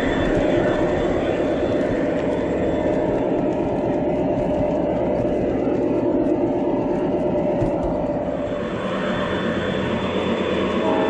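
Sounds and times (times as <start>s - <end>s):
diesel engine sound effects: 0.0s - 11.0s
model train rumbling on track: 0.0s - 11.0s.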